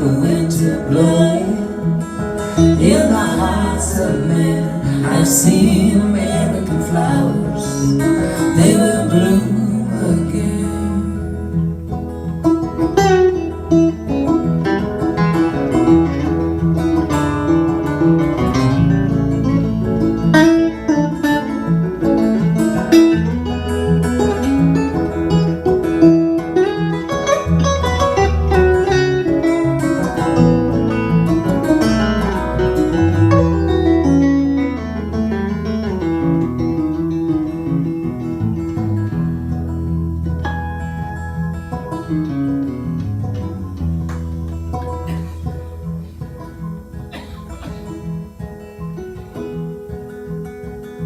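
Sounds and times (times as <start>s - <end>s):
sustained bass line: 0.0s - 46.4s
plucked string lead notes: 0.0s - 51.0s
strummed guitar: 0.0s - 51.0s.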